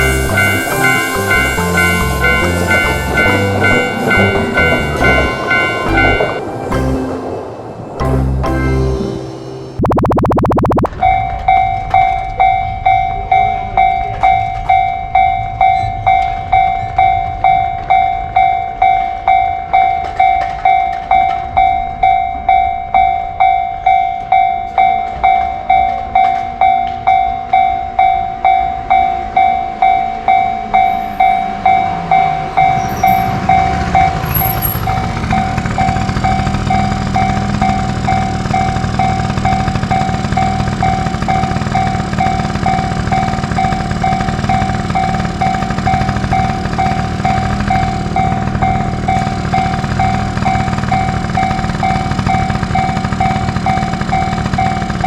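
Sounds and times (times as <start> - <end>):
railroad crossing bell ringing: 0.0 - 9.8, 10.9 - 55.0
train rumbling past: 0.0 - 10.0, 10.9 - 55.0.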